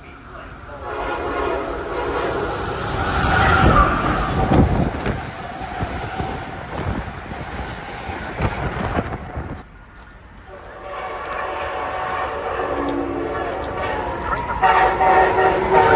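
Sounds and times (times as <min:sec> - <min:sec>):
train passing with rumble: 0:00.0 - 0:15.9.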